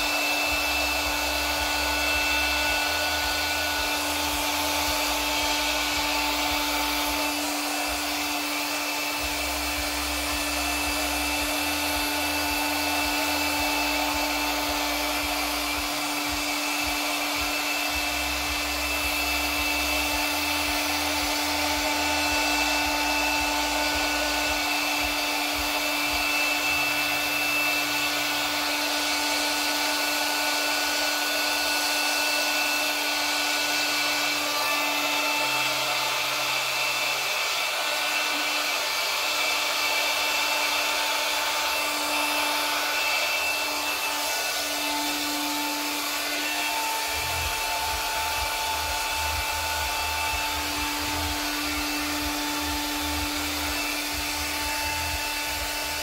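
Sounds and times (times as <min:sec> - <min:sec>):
hot-air blower rush of air: 0:00.0 - 0:56.0
motor hum: 0:00.0 - 0:56.0.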